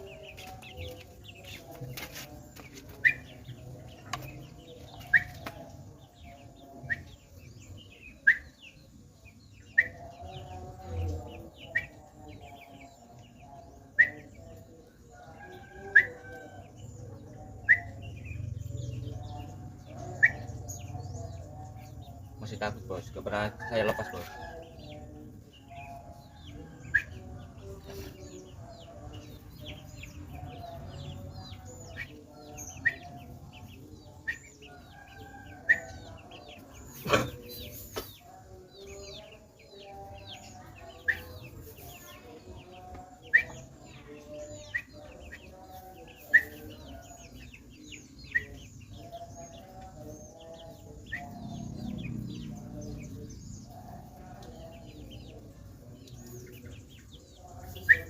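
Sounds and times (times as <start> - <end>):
chickens clucking: 0.0 - 58.0
small birds chirping: 0.0 - 58.0.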